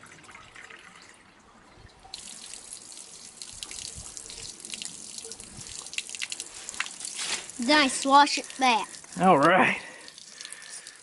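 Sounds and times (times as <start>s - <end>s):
water splashing as cup is rinsed: 2.1s - 11.0s.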